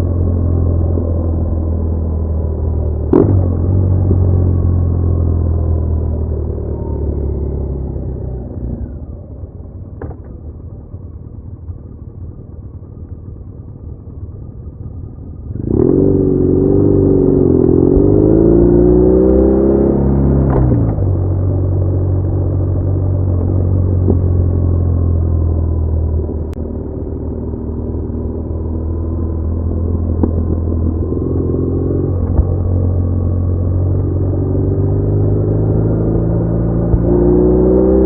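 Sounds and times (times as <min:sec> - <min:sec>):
motorcycle engine revving: 0:00.0 - 0:09.3, 0:15.4 - 0:38.0.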